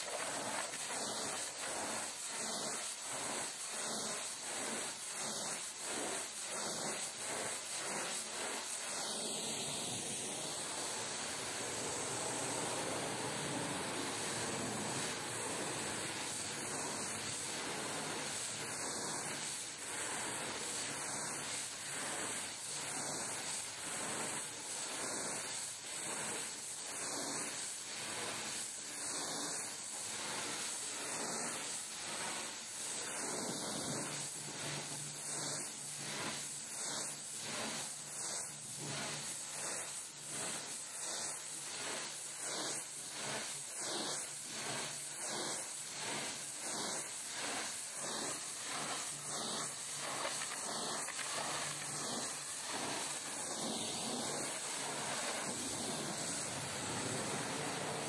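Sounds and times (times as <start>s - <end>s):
pressure washer jet hissing: 0.0s - 58.0s.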